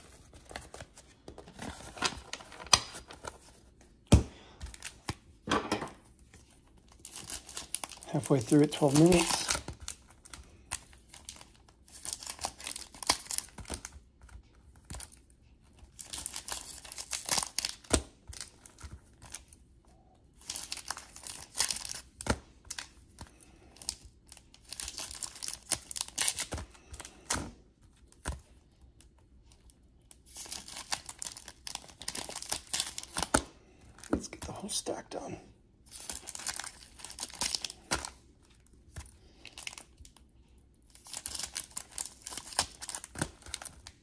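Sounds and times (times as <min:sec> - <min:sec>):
paper wrappers crinkling and tearing: 0:00.0 - 0:04.0, 0:06.2 - 0:19.7, 0:20.3 - 0:44.0.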